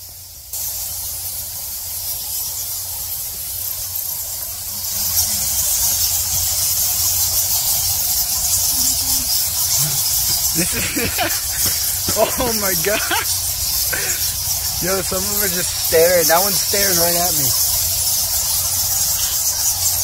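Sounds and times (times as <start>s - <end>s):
bats squeaking: 0.1s - 20.0s.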